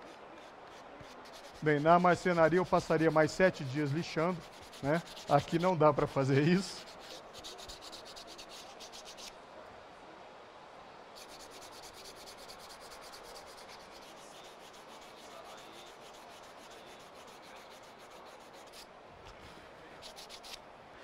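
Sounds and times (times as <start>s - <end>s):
sandpaper rubbing on wood: 0.0s - 9.3s, 11.2s - 18.9s, 20.0s - 20.6s.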